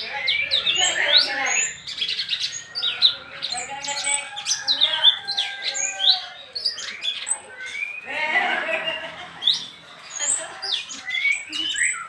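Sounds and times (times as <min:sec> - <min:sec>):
bird singing chirps and whistles: 0:00.0 - 0:08.1, 0:08.7 - 0:12.0.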